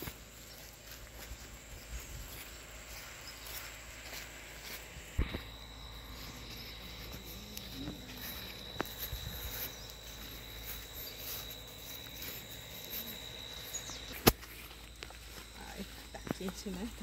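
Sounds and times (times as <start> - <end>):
insect trilling: 0.0 - 17.0.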